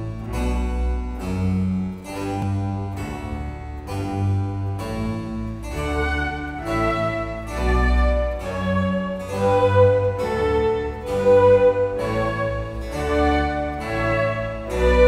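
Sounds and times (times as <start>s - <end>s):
bowed strings: 0.0s - 15.0s
harpsichord: 0.0s - 15.0s.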